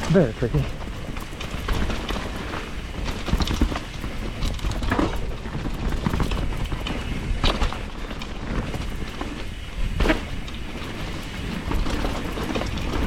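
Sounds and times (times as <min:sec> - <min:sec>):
bike rattling on rough trail: 0:00.0 - 0:13.0.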